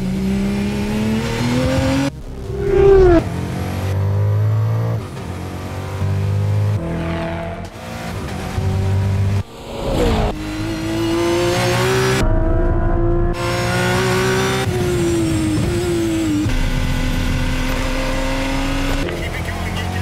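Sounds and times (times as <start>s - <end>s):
car engine revving high: 0.0s - 20.0s.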